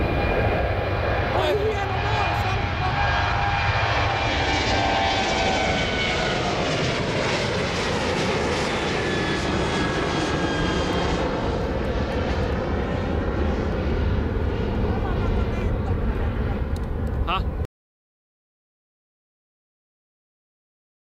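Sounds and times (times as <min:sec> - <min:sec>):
jet airliner flying overhead: 0:00.0 - 0:17.7.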